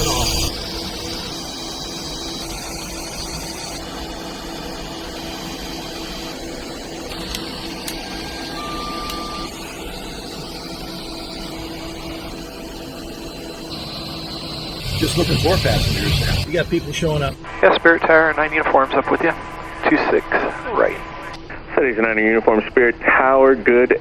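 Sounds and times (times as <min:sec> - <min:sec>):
air conditioning whir and hum: 0:00.0 - 0:24.0.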